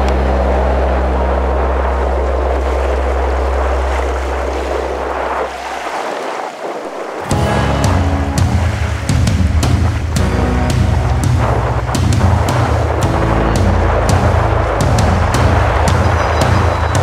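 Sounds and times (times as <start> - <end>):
low drone: 0.0 - 5.9, 7.2 - 17.0
wind rushing over microphone: 0.0 - 17.0.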